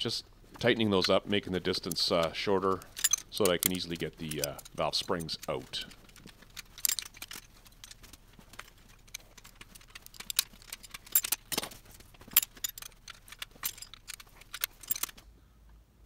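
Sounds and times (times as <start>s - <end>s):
wrench clicking on metal: 0.8s - 15.2s.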